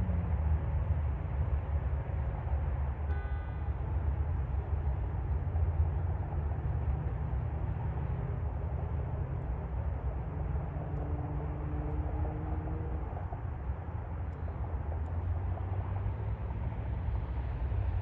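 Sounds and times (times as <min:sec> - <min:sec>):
highway traffic rumble: 0:00.0 - 0:18.0.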